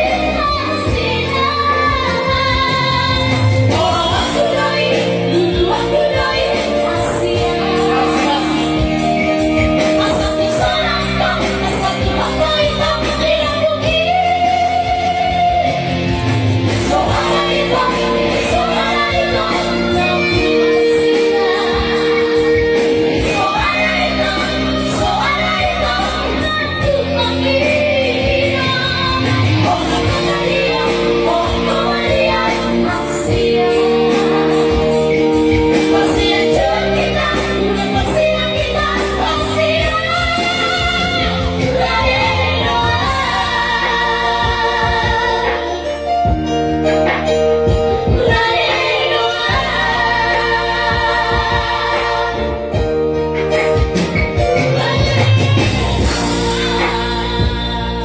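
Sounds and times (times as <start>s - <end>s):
electronic keyboard and drums: 0.0s - 58.0s.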